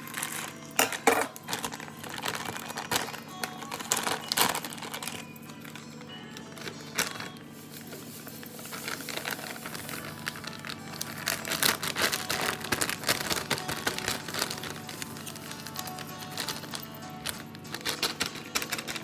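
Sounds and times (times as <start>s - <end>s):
paper sachet crinkling: 0.0s - 19.0s.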